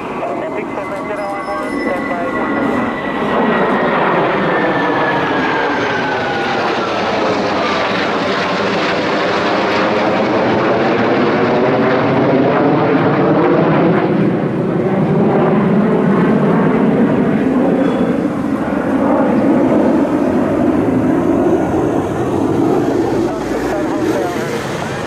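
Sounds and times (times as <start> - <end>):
jet engines passing overhead: 0.0 - 25.0.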